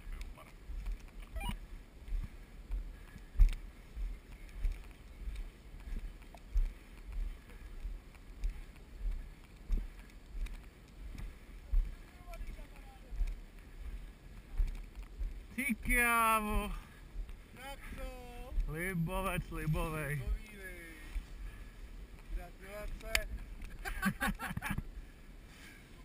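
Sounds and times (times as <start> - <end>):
footsteps through long grass: 0.0 - 24.4.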